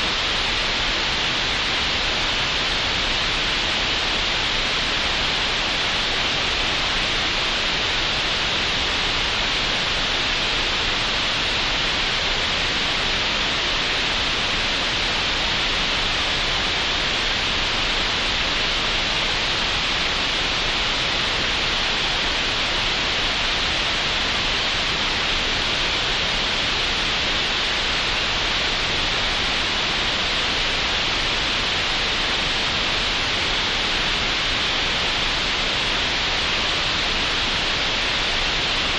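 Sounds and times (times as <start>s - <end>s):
steady green noise hiss: 0.0s - 38.9s.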